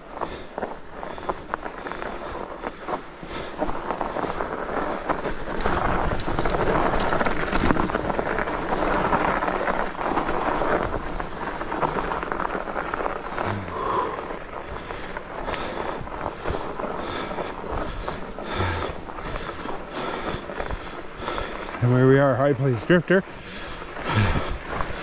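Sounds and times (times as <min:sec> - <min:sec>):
bike tyres crunching over snow: 0:00.0 - 0:25.0.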